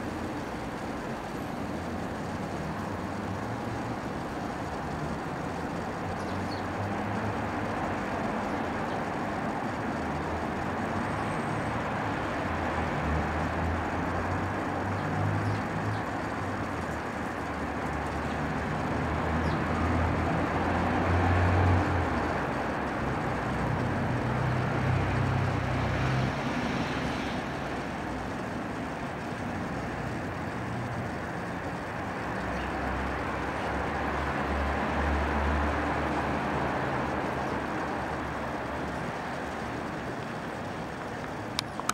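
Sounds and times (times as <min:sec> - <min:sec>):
road traffic rumble: 0:00.0 - 0:41.9.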